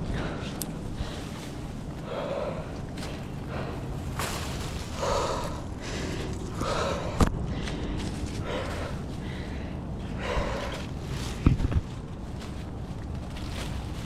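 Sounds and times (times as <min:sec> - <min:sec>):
person breathing hard: 0:00.0 - 0:11.5.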